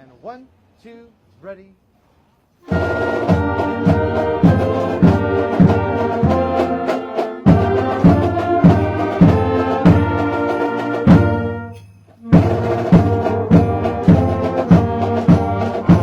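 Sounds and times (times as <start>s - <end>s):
marching band playing: 2.6s - 16.0s
steady drum beat: 2.6s - 16.0s.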